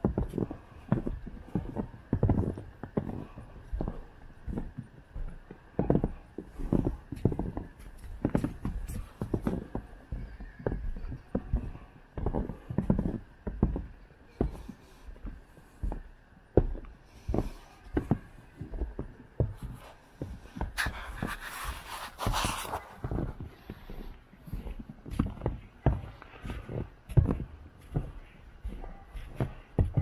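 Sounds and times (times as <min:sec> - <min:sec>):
footsteps in snow: 0:00.0 - 0:13.9, 0:16.6 - 0:30.0.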